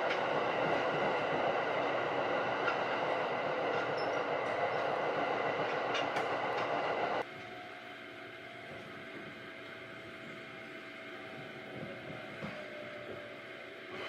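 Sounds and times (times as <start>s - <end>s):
quiet hum inside train car: 0.0s - 14.0s
train wheel and track noise: 0.0s - 14.0s.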